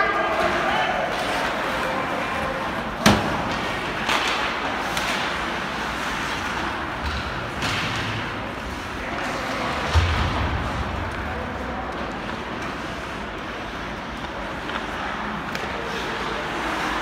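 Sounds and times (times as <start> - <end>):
rink and crowd noise: 0.0 - 17.0.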